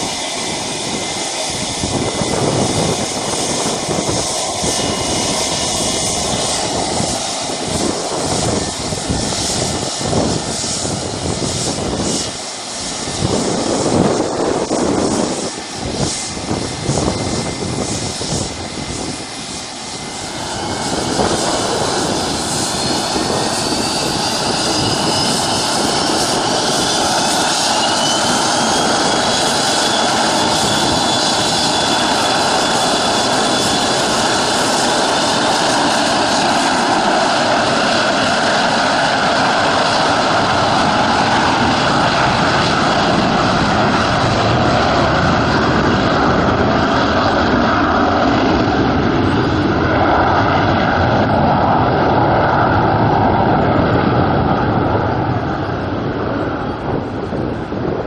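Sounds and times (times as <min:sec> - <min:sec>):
jet engines spooling up: 0:00.0 - 0:58.0
rising engine whine: 0:00.0 - 0:58.0.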